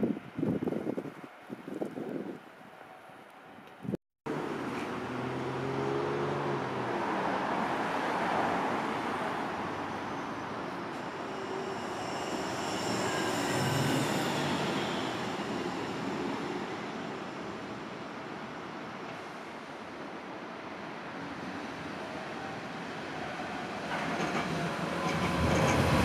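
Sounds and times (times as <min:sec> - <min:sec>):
electric train rumbling on rails: 0:00.0 - 0:26.0.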